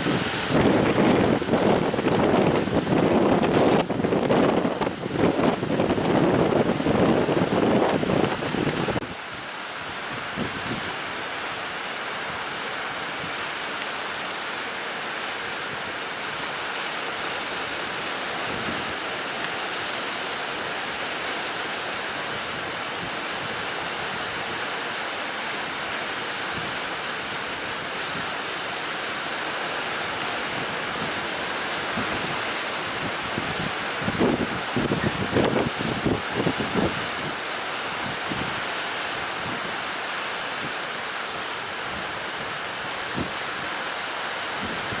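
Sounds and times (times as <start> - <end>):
sea surf rushing: 0.0 - 45.0
strong wind: 0.0 - 45.0.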